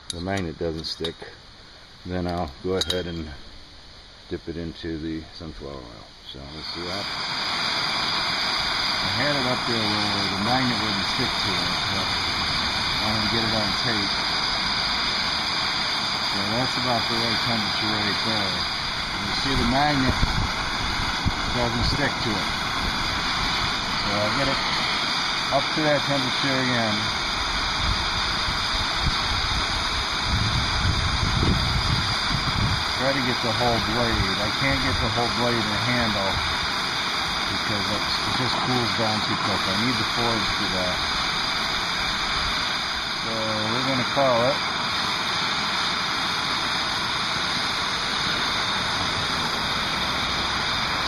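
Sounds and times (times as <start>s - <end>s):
gas torch flame rushing: 5.6s - 51.0s.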